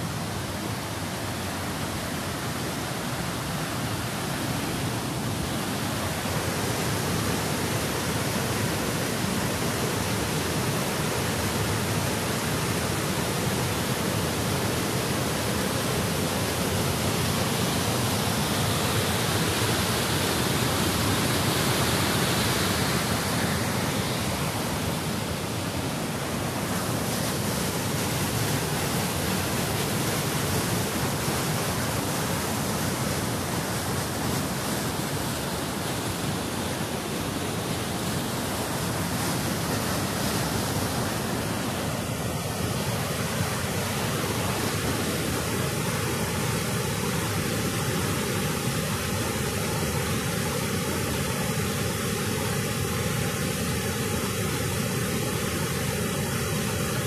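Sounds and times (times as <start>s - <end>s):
waterfall rushing over boulders: 0.0s - 57.0s.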